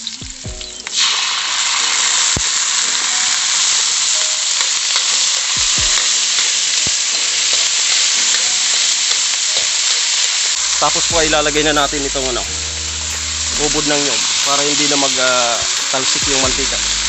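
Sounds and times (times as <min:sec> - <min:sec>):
fish juice sizzling in hot oil: 0:00.0 - 0:17.0.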